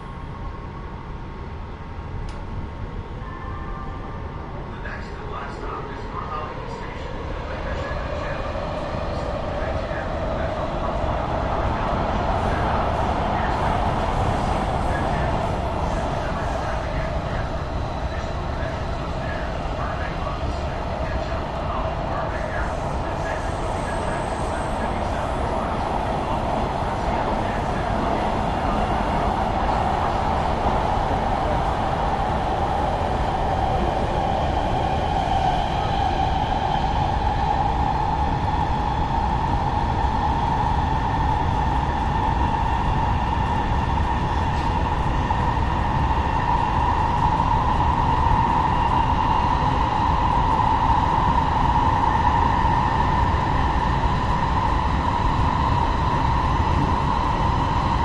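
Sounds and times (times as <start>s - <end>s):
train rumbling along track: 0.0s - 58.0s
train whine: 2.2s - 58.0s.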